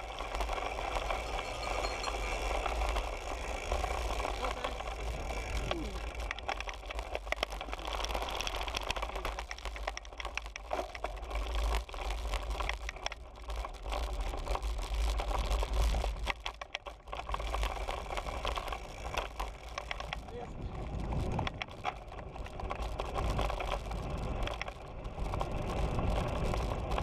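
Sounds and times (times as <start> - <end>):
wind rumble on microphone: 0.0 - 16.4, 17.2 - 27.0
bike clicking and rattling: 0.0 - 27.0.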